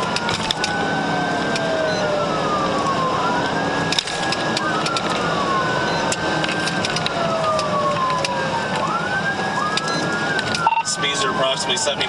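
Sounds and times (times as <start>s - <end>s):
car road noise: 0.0s - 12.0s
police sirens wailing: 0.0s - 12.0s.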